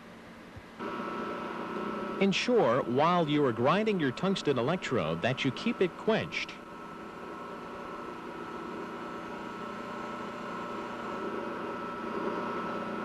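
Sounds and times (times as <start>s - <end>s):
bench grinder grinding metal: 0.8s - 13.0s.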